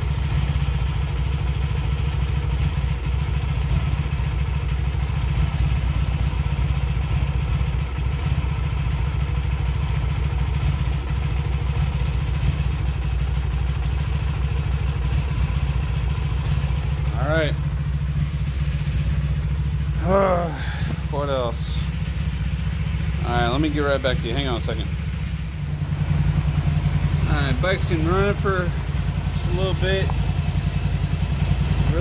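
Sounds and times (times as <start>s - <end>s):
motorcycle engine idling unevenly: 0.0s - 32.0s.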